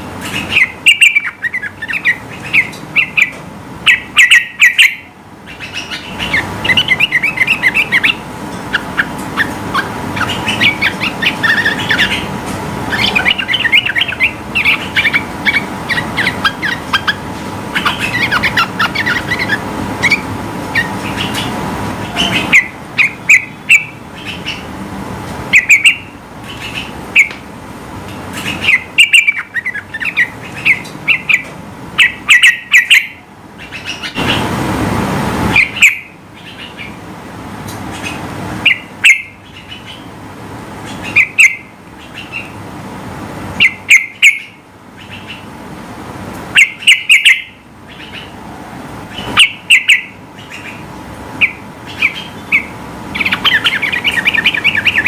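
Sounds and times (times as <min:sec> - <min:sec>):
bulbul chirping song: 0:00.0 - 0:24.7, 0:25.5 - 0:27.4, 0:28.1 - 0:34.4, 0:35.5 - 0:37.0, 0:37.6 - 0:40.2, 0:40.8 - 0:42.6, 0:43.6 - 0:45.5, 0:46.5 - 0:48.4, 0:49.1 - 0:55.0
faint steady hum: 0:00.0 - 0:55.0.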